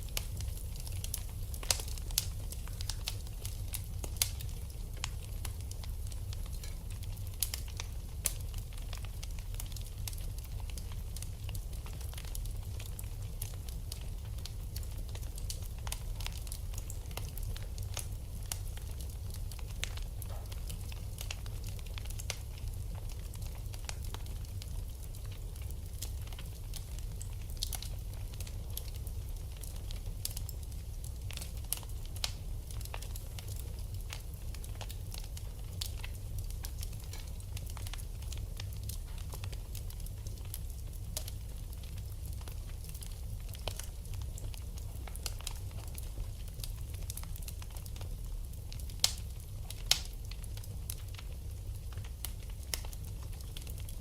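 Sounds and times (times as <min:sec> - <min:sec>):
fire crackling and popping: 0:00.0 - 0:54.0
low rumble of fire: 0:00.0 - 0:54.0.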